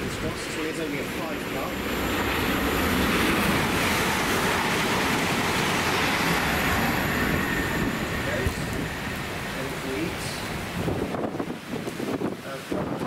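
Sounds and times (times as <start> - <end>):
train wheels on rails: 0.0 - 11.3.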